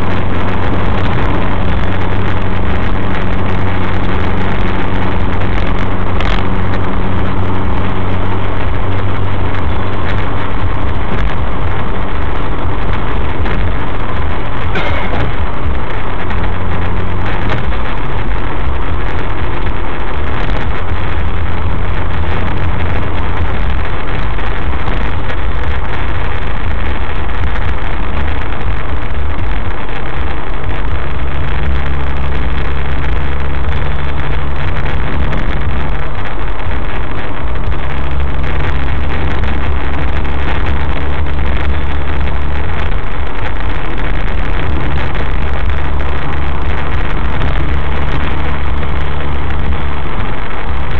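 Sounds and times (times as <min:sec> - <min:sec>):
car engine droning: 0:00.0 - 0:50.9
road noise: 0:00.0 - 0:50.9.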